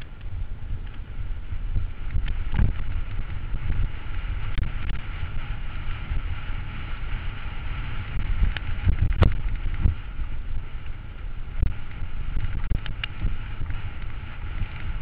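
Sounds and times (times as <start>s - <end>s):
bike knocking and rattling over rocks: 0.0s - 15.0s
bike rumble on stony trail: 0.0s - 15.0s
wind buffeting microphone: 0.0s - 15.0s.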